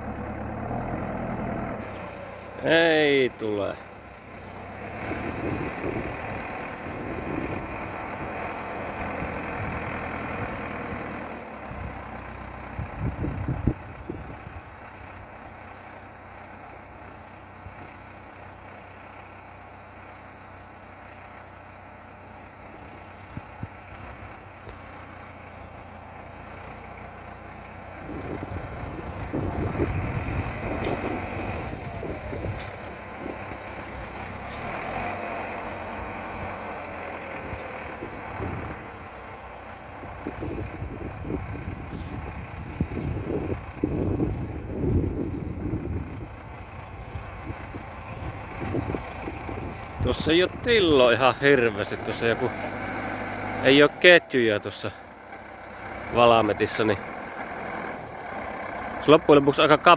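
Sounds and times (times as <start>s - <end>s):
tractor diesel engine straining: 0.0s - 59.9s.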